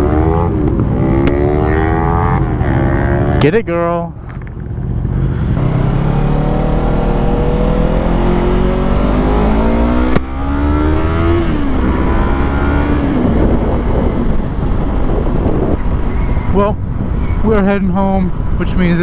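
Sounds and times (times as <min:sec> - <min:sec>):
motorcycle engine accelerating: 0:00.0 - 0:16.5.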